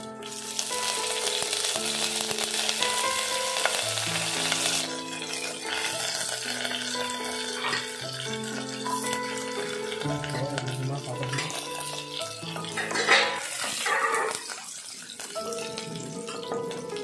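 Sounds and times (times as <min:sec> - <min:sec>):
background music with held notes: 0:00.0 - 0:17.0
leaves sizzling in hot oil: 0:00.0 - 0:17.0.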